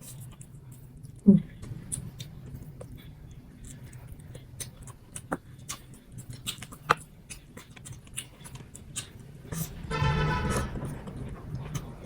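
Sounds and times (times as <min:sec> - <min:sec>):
close-miked chewing: 0:00.0 - 0:09.9, 0:10.8 - 0:12.0
faint low hum: 0:00.0 - 0:12.0.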